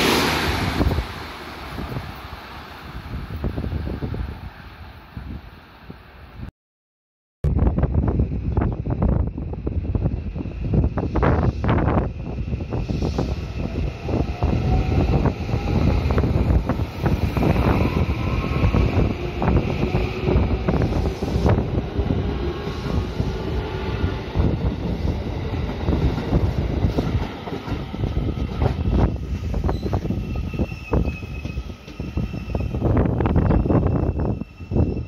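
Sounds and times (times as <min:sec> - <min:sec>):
electric train rumbling past: 0:00.0 - 0:05.8, 0:07.6 - 0:35.0.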